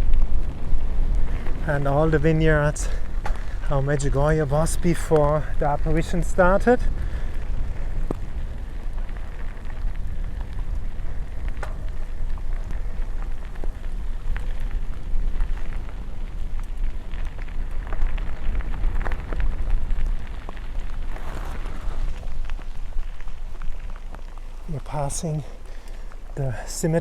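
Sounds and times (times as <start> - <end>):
rain falling: 0.0 - 27.0
steady low rumble: 0.0 - 27.0.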